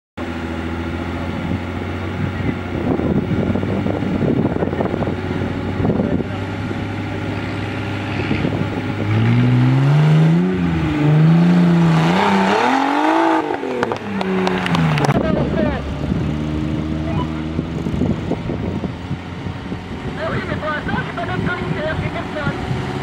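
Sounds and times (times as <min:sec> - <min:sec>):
buggy engine idling and revving: 0:00.2 - 0:23.0.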